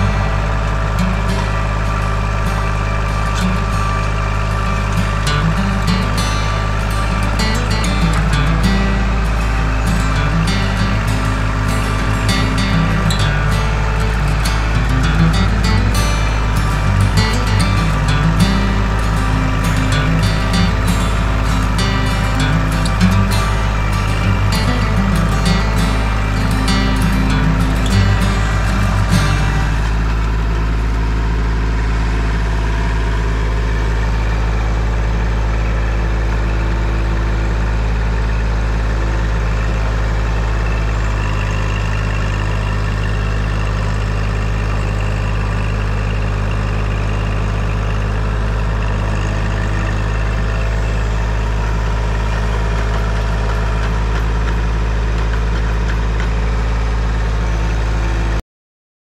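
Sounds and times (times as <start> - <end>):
tractor diesel engine running: 0.0 - 58.4.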